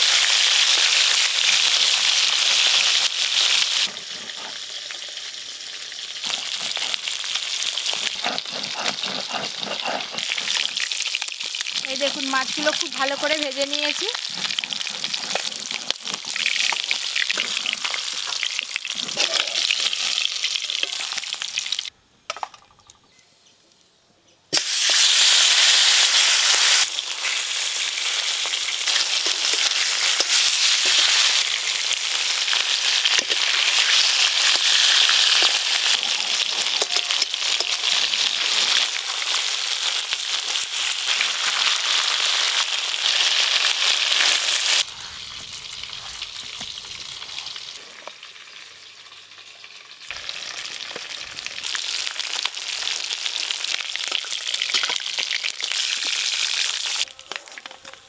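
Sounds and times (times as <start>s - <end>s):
fish sizzling in hot oil: 0.0s - 21.9s, 24.5s - 58.0s.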